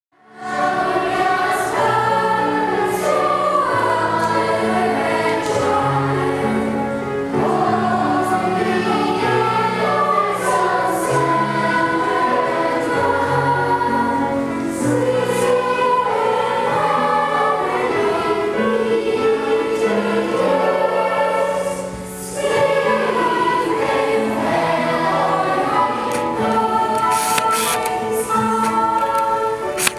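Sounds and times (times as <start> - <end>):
choir singing a carol: 0.2 - 29.9.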